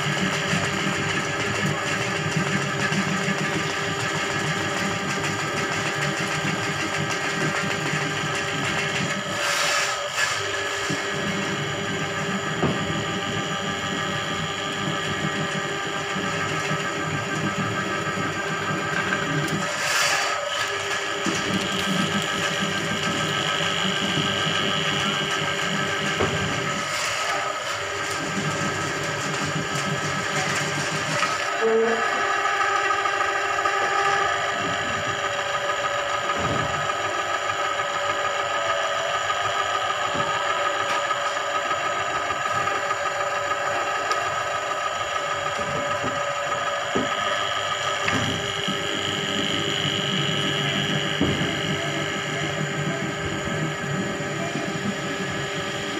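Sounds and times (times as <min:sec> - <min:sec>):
drain-cleaning machine running: 0:00.0 - 0:55.9.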